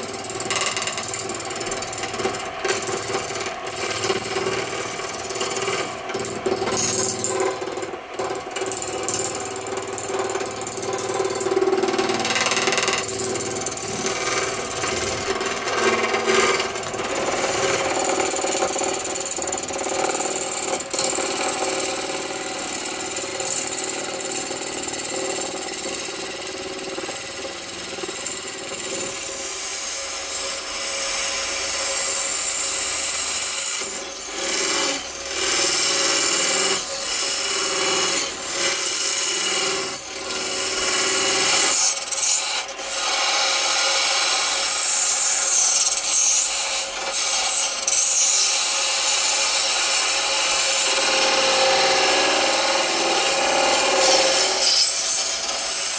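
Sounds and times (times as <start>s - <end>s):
lathe tool rasping on wood: 0.0s - 55.9s
wood lathe humming: 0.0s - 55.9s.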